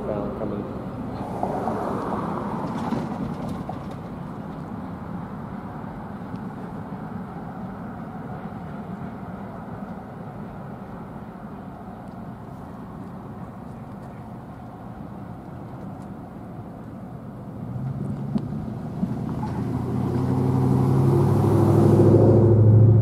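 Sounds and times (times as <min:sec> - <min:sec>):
locomotive engine drone: 0:00.0 - 0:23.0
locomotive low rumble: 0:00.0 - 0:23.0.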